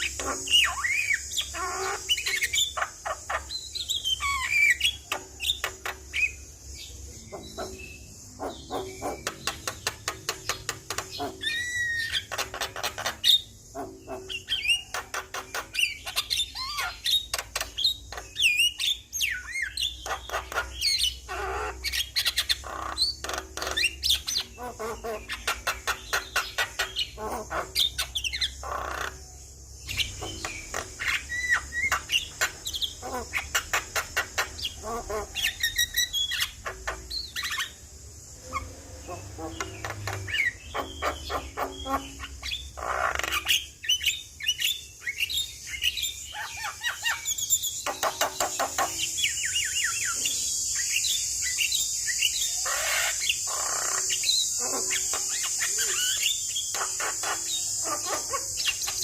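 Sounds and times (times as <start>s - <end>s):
bird chattering and whistling: 0.0s - 59.0s.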